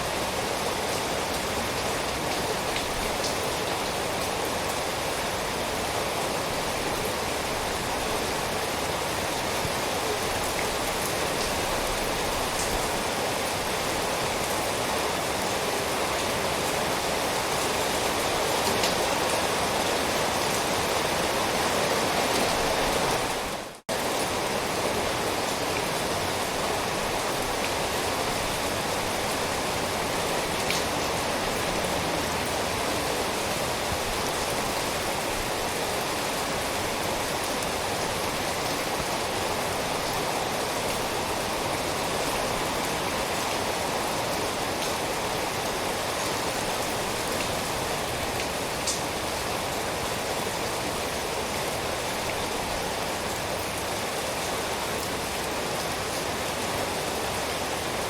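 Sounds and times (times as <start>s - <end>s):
heavy rainfall: 0.0s - 58.0s.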